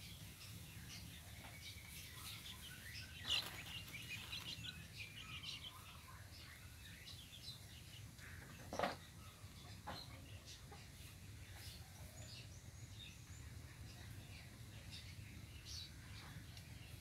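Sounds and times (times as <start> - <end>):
chicks peeping and chirping: 0.0 - 17.0.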